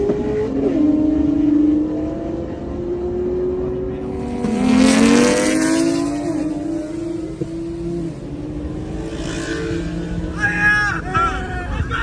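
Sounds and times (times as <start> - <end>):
low road rumble: 0.0 - 12.0.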